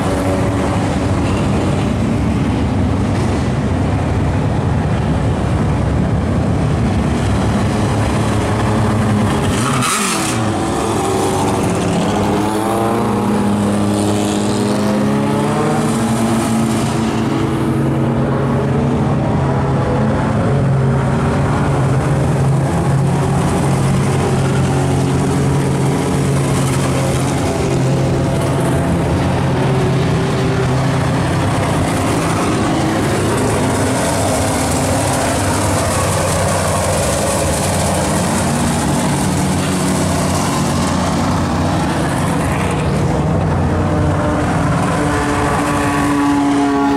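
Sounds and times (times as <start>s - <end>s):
race car engines running: 0.0s - 46.9s
race car passing close: 6.4s - 46.9s.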